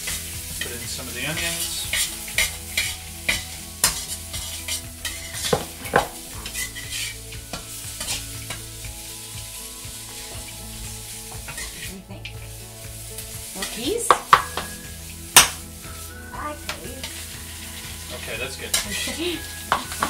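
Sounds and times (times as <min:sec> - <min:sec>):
metal spatula scraping wok: 0:00.0 - 0:20.0
vegetables sizzling in oil: 0:00.0 - 0:20.0.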